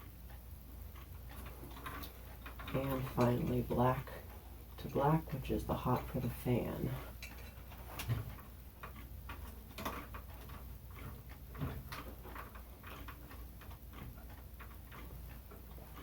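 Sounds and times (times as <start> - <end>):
electrical wires rustling: 0.0 - 16.0.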